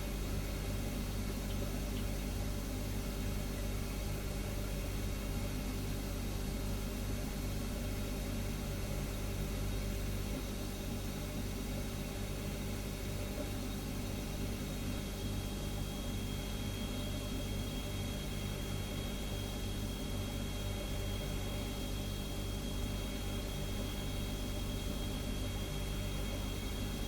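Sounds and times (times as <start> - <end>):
refrigerator humming: 0.0 - 27.0.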